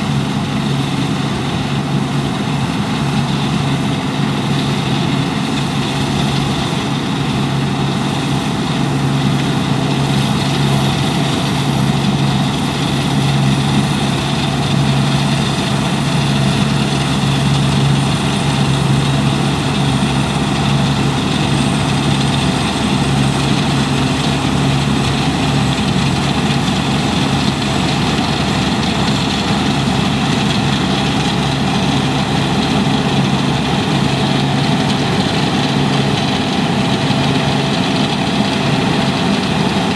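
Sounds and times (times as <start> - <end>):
combine harvester diesel engine humming: 0.0 - 39.9
working machinery noise: 0.0 - 39.9.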